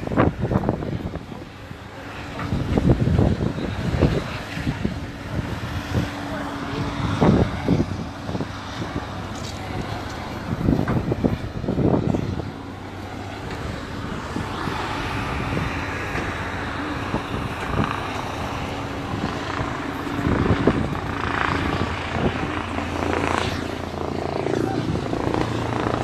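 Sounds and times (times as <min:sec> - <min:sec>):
helicopter rotor and engine drone: 0:00.0 - 0:26.0.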